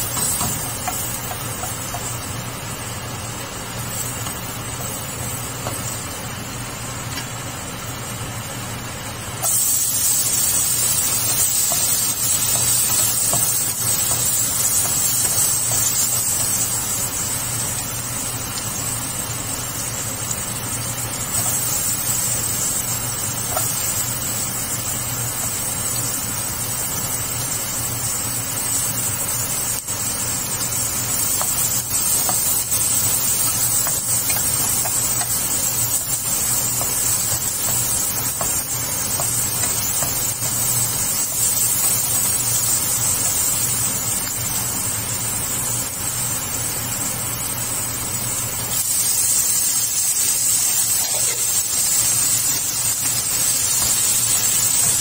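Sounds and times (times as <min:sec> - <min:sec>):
garlic sizzling in hot oil: 0:00.0 - 0:55.0.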